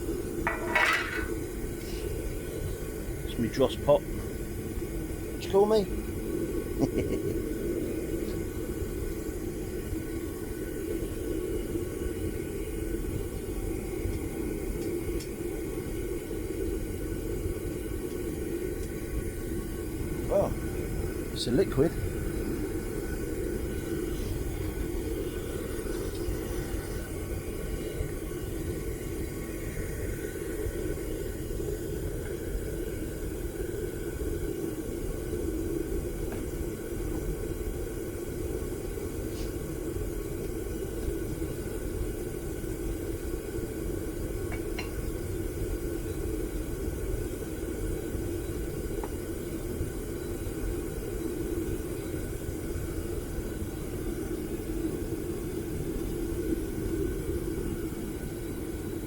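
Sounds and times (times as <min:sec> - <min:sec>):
furnace burner rumbling: 0:00.0 - 0:59.0.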